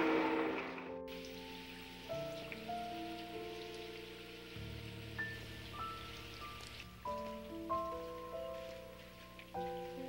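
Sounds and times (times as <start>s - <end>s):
soft background music: 0.0s - 10.0s
faint hiss: 1.0s - 10.0s.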